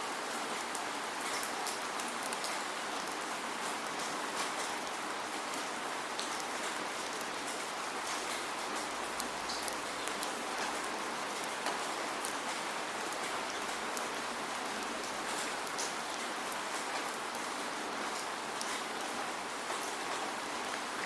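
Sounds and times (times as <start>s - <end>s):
raindrops ticking on a surface: 0.1s - 21.0s.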